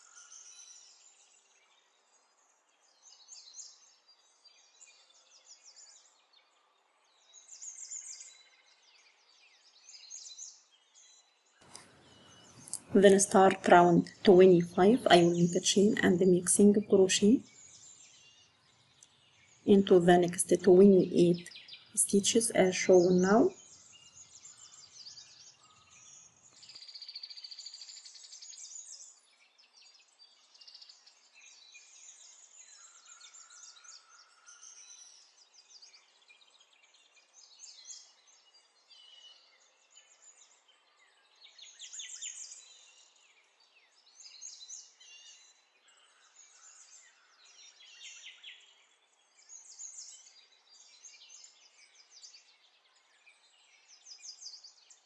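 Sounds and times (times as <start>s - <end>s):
faint birdsong with trills: 0.0s - 55.0s.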